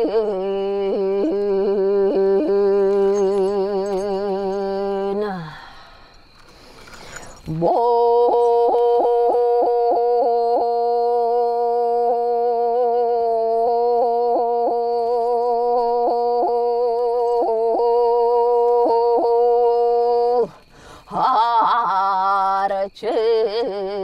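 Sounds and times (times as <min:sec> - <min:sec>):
woman singing with throat catches: 0:00.0 - 0:05.8, 0:07.4 - 0:24.0.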